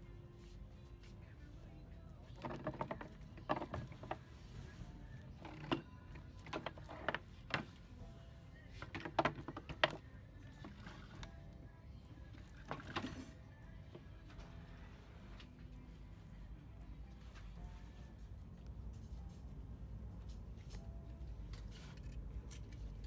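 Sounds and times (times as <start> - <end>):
faint music: 0.0 - 23.0.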